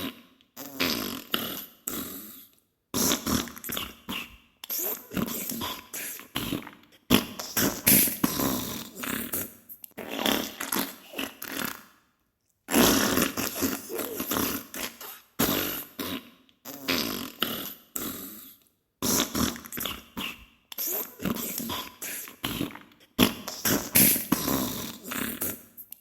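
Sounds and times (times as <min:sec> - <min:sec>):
fart noises: 0:00.0 - 0:02.4, 0:03.0 - 0:12.0, 0:12.7 - 0:25.8.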